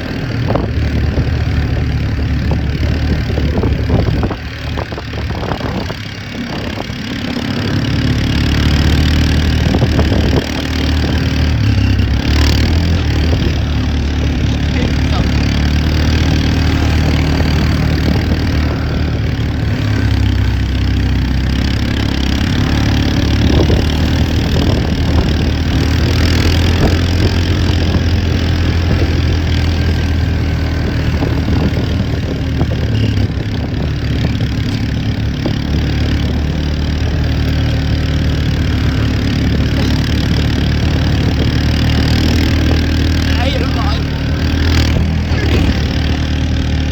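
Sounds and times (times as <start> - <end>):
engine droning: 0.0 - 46.9.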